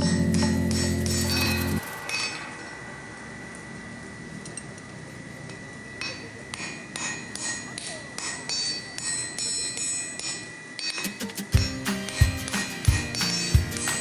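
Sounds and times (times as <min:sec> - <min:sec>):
hammer striking steel on anvil: 0:00.0 - 0:14.0.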